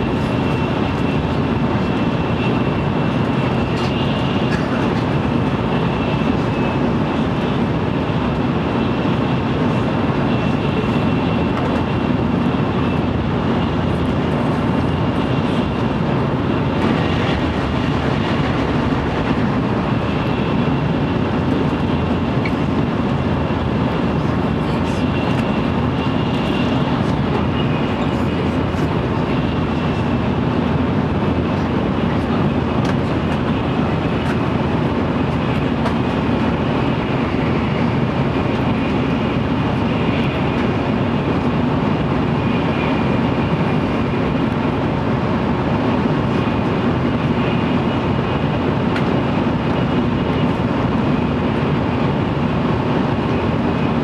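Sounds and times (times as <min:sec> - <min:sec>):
train cabin rumble and rush: 0:00.0 - 0:54.0.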